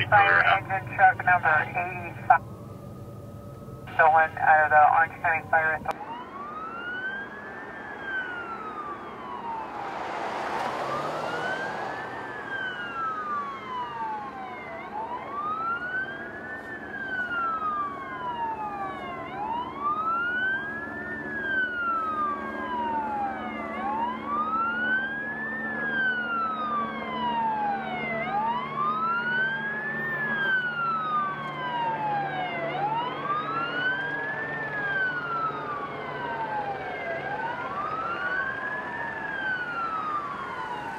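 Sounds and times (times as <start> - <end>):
police sirens wailing: 0.0 - 40.9.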